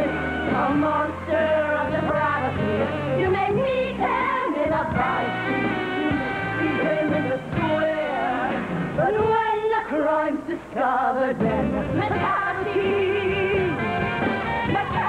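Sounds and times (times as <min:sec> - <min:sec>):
musical theatre band music: 0:00.0 - 0:10.3, 0:11.0 - 0:15.0.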